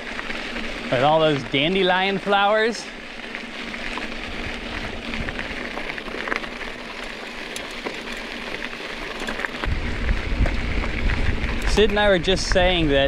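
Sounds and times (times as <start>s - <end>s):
bike tyres crunching on gravel: 0.0s - 13.0s.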